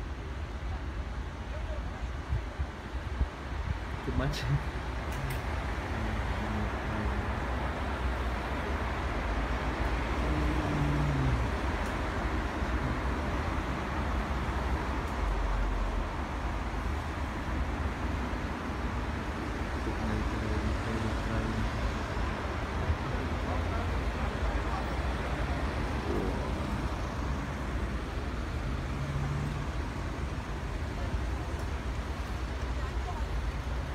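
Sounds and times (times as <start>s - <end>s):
city road traffic hum: 0.0s - 33.9s.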